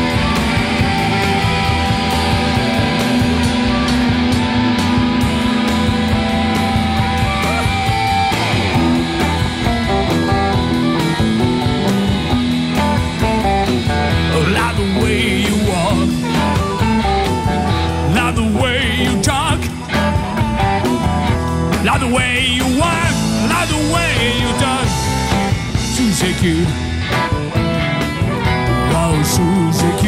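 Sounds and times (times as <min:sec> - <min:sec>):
bass guitar: 0:00.0 - 0:30.0
drums keeping a steady beat: 0:00.0 - 0:30.0
electric guitar: 0:00.0 - 0:30.0
guitar lead with bent notes: 0:00.0 - 0:30.0.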